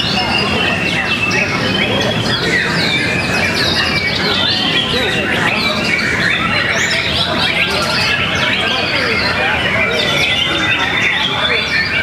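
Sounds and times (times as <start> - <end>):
crowd chatter: 0.0 - 12.0
songbirds singing: 0.0 - 12.0.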